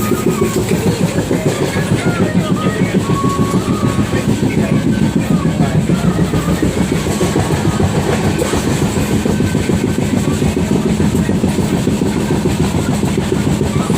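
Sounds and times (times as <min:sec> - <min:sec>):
train rattle: 0:00.0 - 0:13.9
train wheels rumbling on rails: 0:00.0 - 0:13.9.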